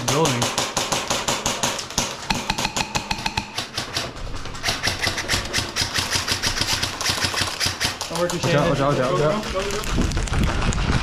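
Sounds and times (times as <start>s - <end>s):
airsoft guns firing rapidly: 0.0s - 11.0s.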